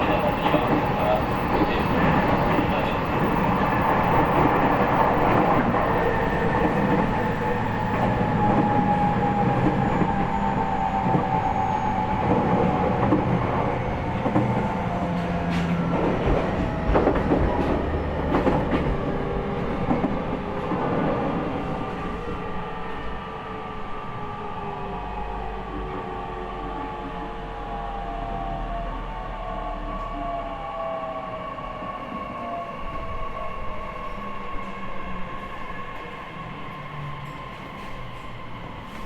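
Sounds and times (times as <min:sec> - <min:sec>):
rumbling train wheels: 0:00.0 - 0:39.0.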